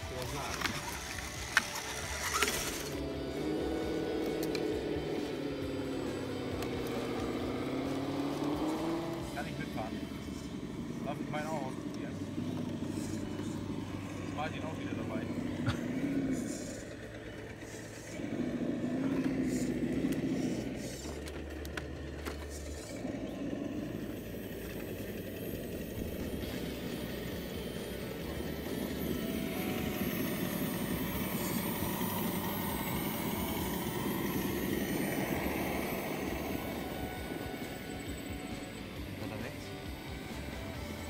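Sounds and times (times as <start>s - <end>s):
small electric motor whining: 0.0s - 41.0s.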